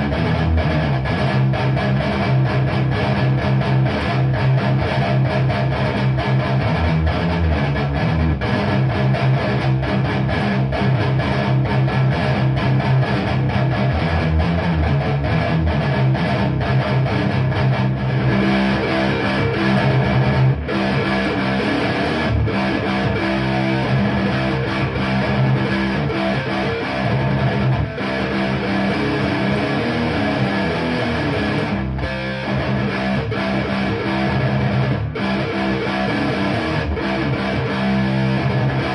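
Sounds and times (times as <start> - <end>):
distorted electric guitar riffs: 0.0 - 38.9.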